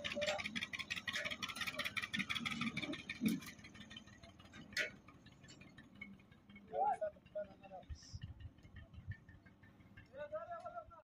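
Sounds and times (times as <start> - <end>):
engine clattering: 0.0 - 11.0.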